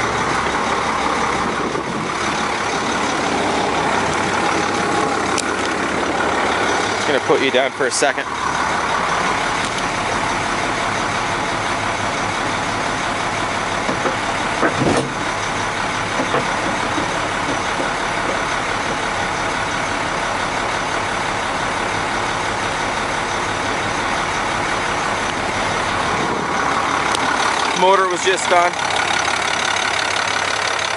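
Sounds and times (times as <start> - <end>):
diesel engine idling: 0.0 - 30.9
engine clatter: 0.0 - 30.9.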